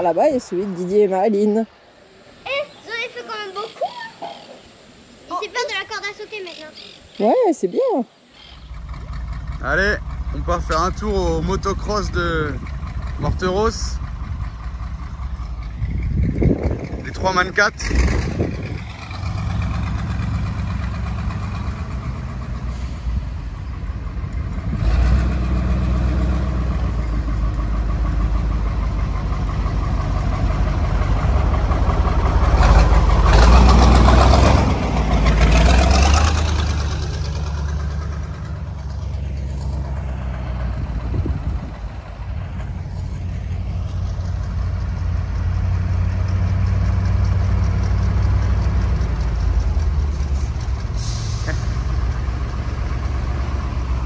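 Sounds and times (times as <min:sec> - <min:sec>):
truck engine droning: 0:08.3 - 0:54.0.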